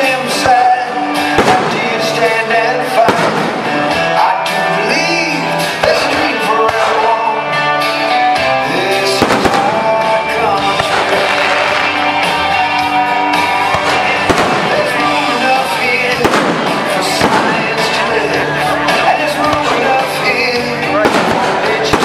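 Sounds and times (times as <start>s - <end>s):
fireworks bursting: 0.0s - 7.3s, 9.0s - 22.0s
song with singing: 0.0s - 22.0s.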